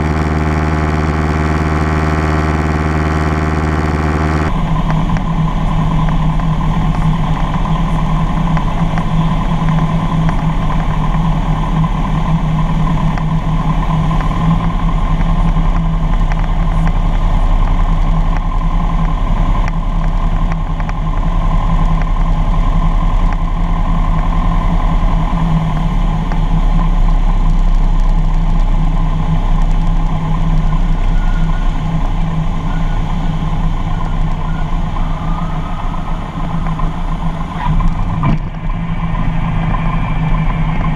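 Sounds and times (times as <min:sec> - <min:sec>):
light airplane engine drone: 0:00.0 - 0:40.9.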